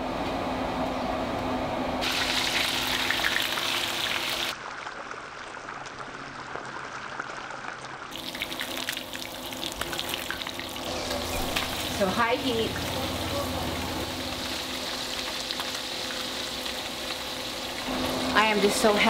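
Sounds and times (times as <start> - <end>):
fish deep-frying in oil: 2.0 - 19.0.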